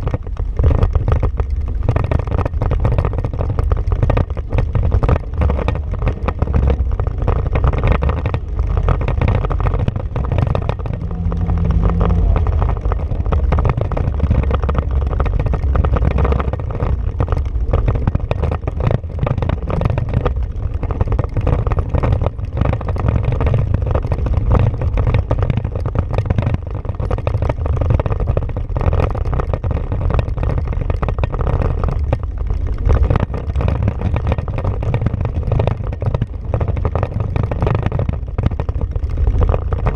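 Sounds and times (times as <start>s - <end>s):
chassis rattles and knocks: 0.0s - 39.9s
utility vehicle engine running: 0.0s - 39.9s.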